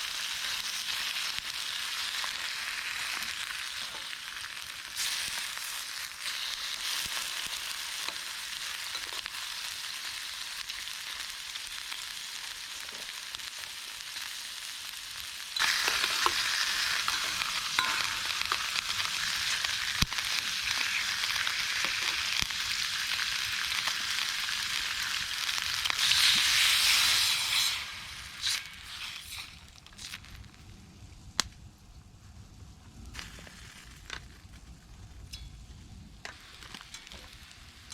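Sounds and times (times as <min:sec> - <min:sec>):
food sizzling in hot fat: 0:00.0 - 0:30.7, 0:33.0 - 0:37.9.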